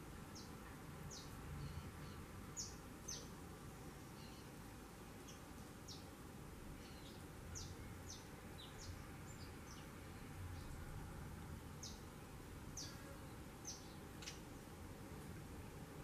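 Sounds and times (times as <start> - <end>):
small birds chirping: 0.0 - 11.0, 11.7 - 14.8
faint background noise: 0.0 - 16.0.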